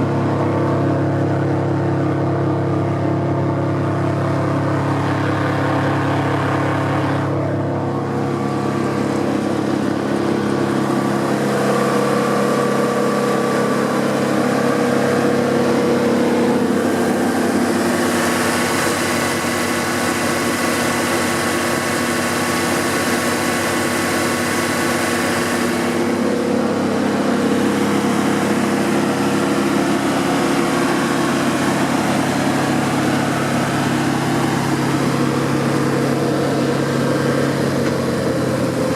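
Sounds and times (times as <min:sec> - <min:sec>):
wood chipper diesel engine running: 0:00.0 - 0:38.9.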